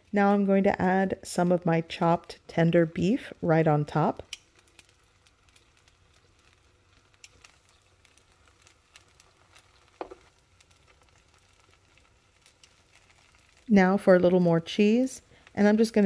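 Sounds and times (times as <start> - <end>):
tortillas sizzling in fat: 0.0 - 16.0.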